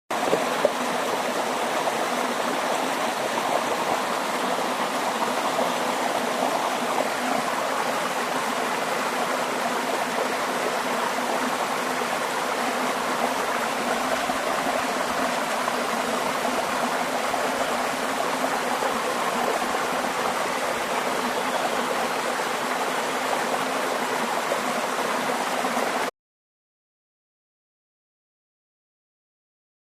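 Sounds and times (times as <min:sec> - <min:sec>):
waterfall rushing and splashing: 0:00.1 - 0:26.1.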